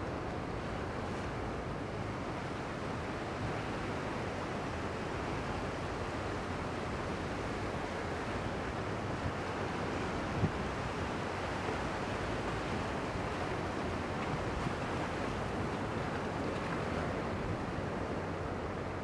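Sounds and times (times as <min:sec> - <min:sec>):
small surf waves breaking: 0:00.1 - 0:19.0.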